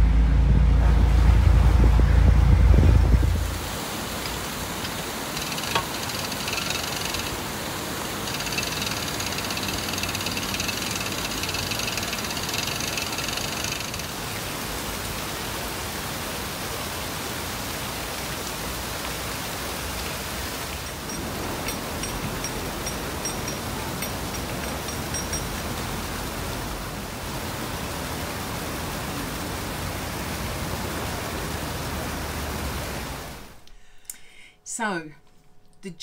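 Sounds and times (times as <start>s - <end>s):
water rushing through sluices: 0.7s - 33.6s.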